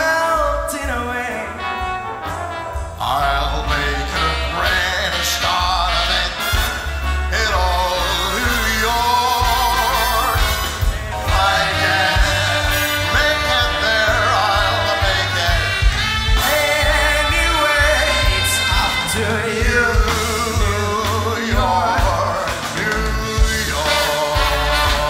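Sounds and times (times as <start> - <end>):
big band music: 0.0 - 25.0.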